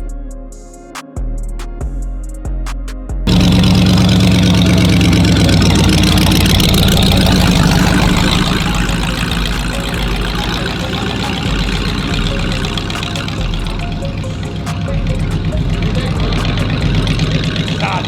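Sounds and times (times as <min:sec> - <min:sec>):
car engine idling loudly: 0:03.3 - 0:18.0.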